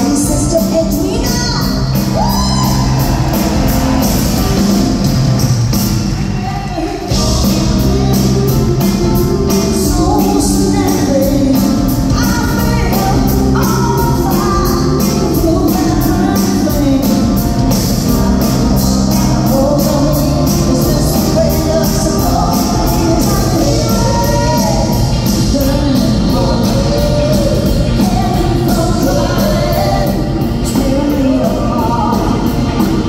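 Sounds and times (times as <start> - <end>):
woman singing lead: 0.0 - 5.2, 6.2 - 33.0
live rock band playing: 0.0 - 33.0.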